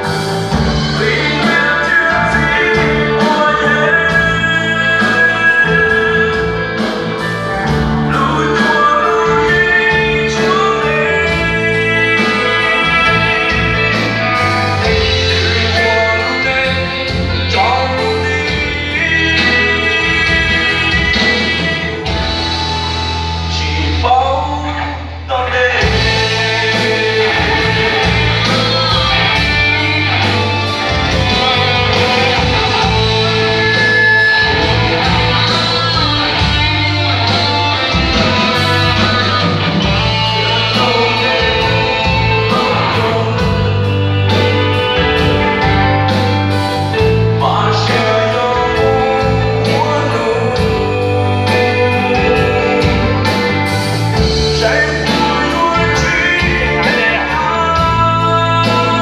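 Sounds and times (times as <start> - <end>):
rock band with singer: 0.0 - 59.0.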